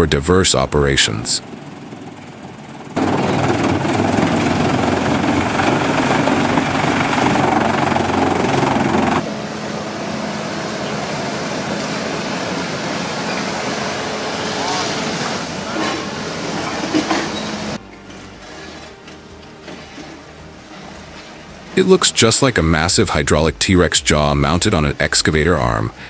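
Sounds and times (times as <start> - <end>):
heavy machinery running: 1.5 - 23.6
quieter machine sound: 1.6 - 25.9.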